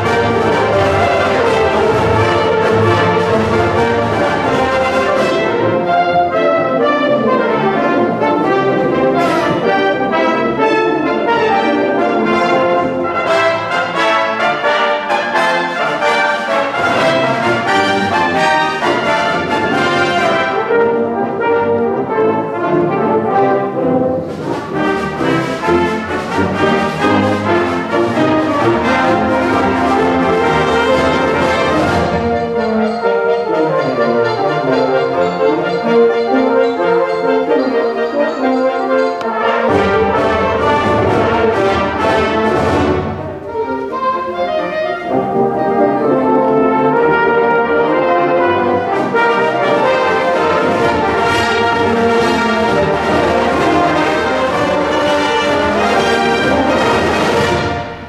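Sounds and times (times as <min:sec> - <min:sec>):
concert wind band playing: 0:00.0 - 0:58.0.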